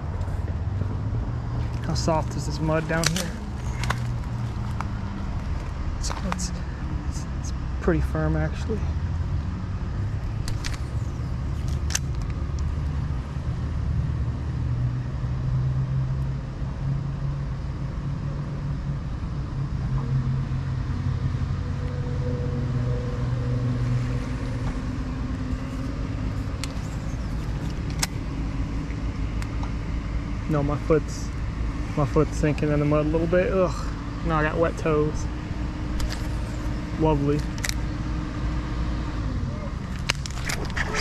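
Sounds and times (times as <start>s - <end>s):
low rumble of road traffic: 0.0s - 41.0s.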